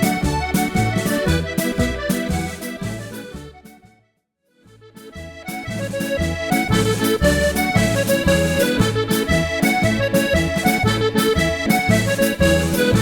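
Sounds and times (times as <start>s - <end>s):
accordion playing a jig: 0.0s - 13.0s.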